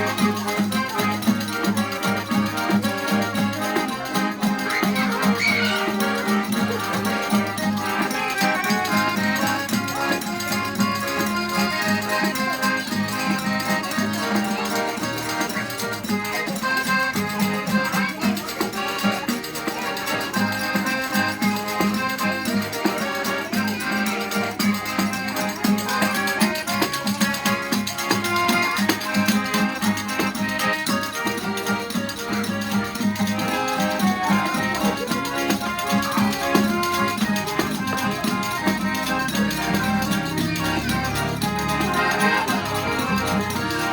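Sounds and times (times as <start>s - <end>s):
accordion playing dance tune: 0.0s - 43.9s.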